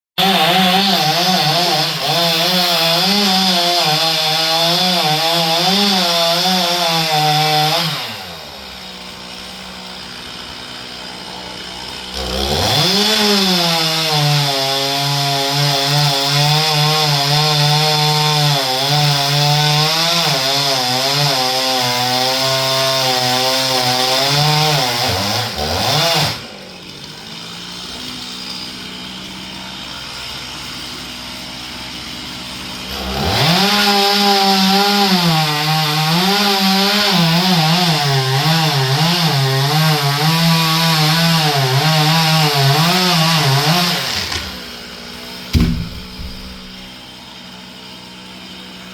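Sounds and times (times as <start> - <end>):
chainsaw cutting wood: 0.2 - 48.9.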